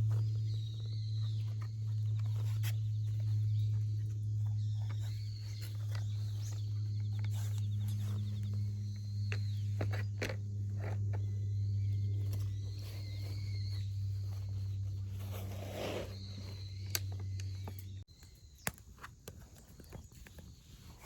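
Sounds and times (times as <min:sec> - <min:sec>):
steady low hum: 0:00.0 - 0:18.6
insects trilling: 0:00.0 - 0:20.6
bird chirping: 0:00.0 - 0:21.0.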